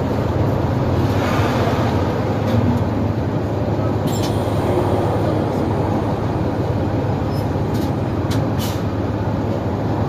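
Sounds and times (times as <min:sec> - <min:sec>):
bus engine drone: 0:00.0 - 0:10.0.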